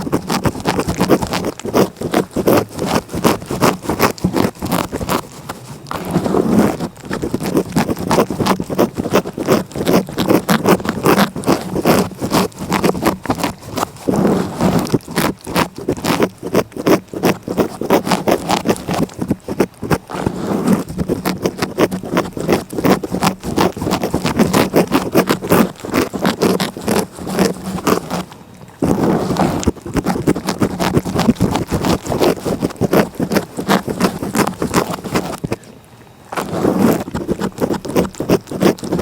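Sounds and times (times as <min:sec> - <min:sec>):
cat licking: 0:00.0 - 0:39.0.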